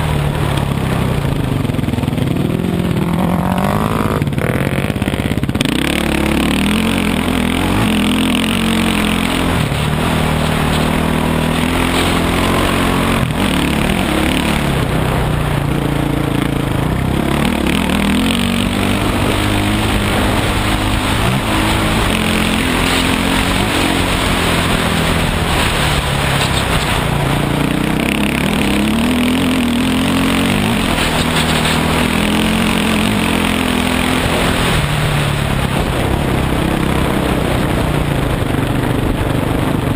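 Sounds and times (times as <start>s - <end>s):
dirt bike engine revving: 0.0s - 38.5s
steady rushing noise: 0.0s - 39.9s.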